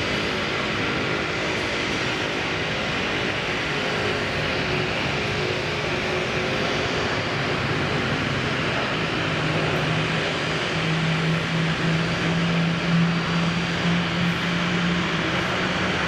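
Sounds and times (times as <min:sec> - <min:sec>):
jet engines roaring at takeoff: 0:00.0 - 0:16.0.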